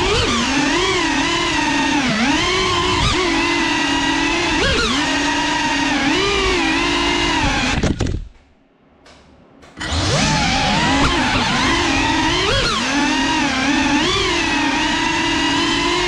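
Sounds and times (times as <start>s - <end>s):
drone motors whining: 0.0s - 8.3s, 9.6s - 16.0s.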